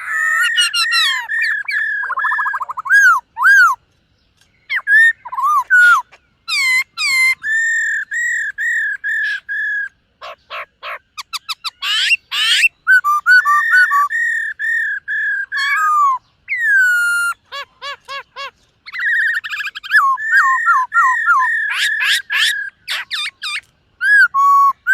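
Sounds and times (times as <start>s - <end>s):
bird singing whistled phrases: 0.0s - 3.8s, 4.6s - 24.9s.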